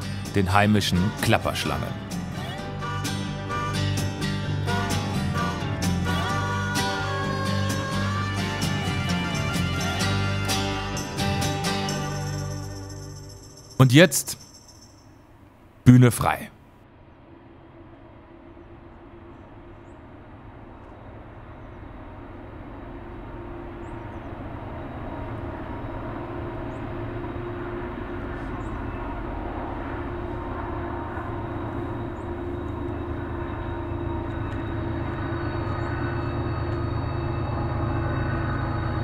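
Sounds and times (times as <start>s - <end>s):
diesel locomotive engine hum: 0.0s - 39.0s.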